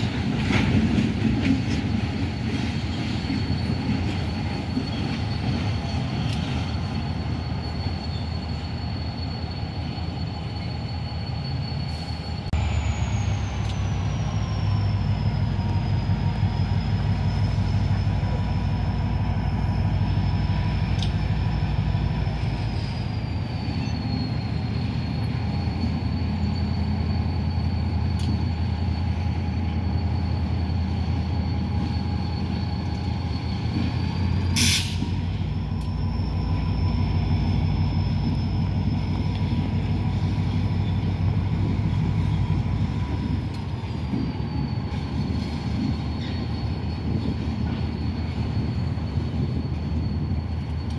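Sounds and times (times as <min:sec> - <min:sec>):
freight train rumbling: 0:00.0 - 0:50.9
high wheel squeal: 0:00.0 - 0:50.9.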